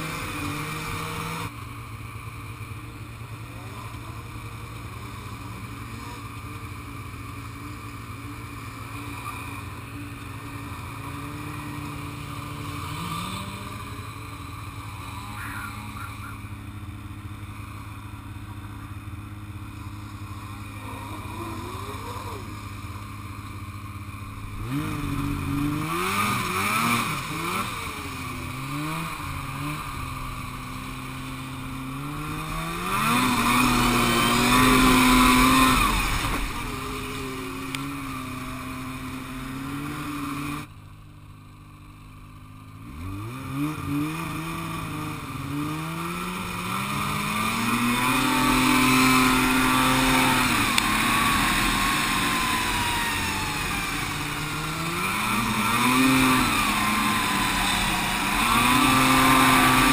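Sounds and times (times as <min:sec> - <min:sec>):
snowmobile engine revving: 0:00.0 - 0:40.7, 0:41.6 - 0:59.9.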